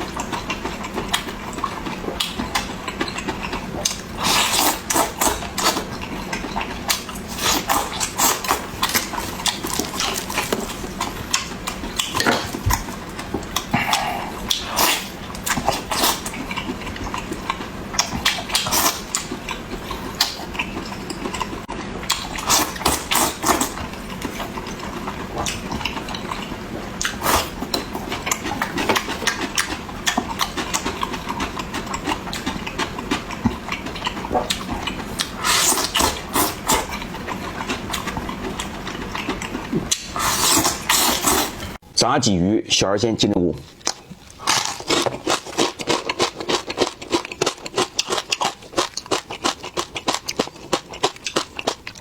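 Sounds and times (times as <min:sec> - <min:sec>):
food crunching: 0:00.0 - 0:41.8, 0:43.6 - 0:52.0
wet chewing and lip smacking: 0:00.0 - 0:41.8, 0:43.6 - 0:52.0.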